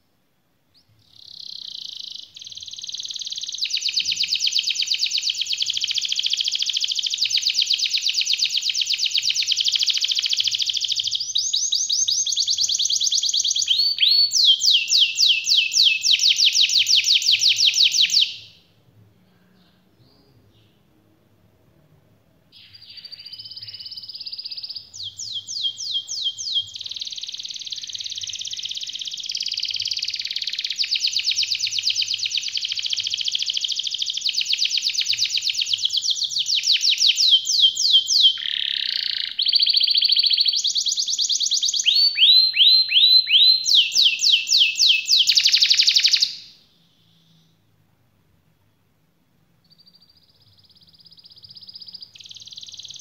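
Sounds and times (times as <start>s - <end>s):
canary singing trills: 0.8s - 18.6s, 22.5s - 47.6s, 49.6s - 53.0s.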